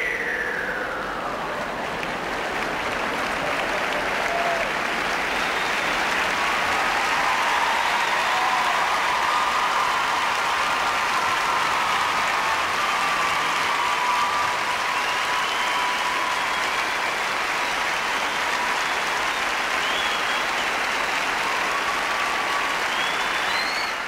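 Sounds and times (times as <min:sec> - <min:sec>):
large crowd applauding: 0:01.0 - 0:24.0.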